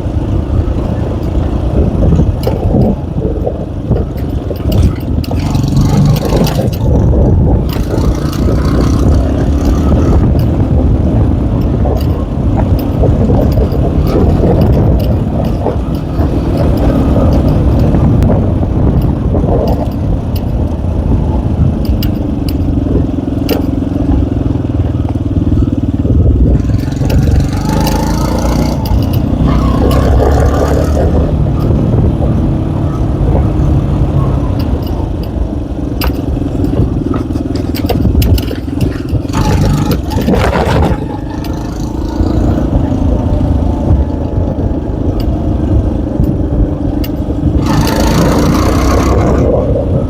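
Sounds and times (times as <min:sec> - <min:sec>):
small motorcycle engine running: 0:00.0 - 0:50.0.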